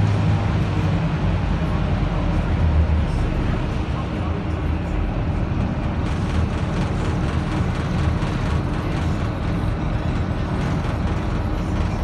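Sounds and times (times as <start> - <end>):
bus diesel engine rumbling: 0.0 - 12.0
road noise: 0.0 - 12.0.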